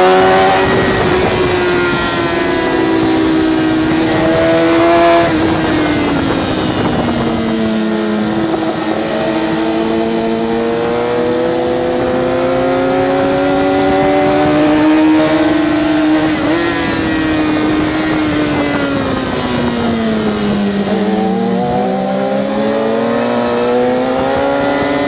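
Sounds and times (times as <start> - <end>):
motorcycle engine revving: 0.0 - 25.0
wind rush: 0.0 - 25.0.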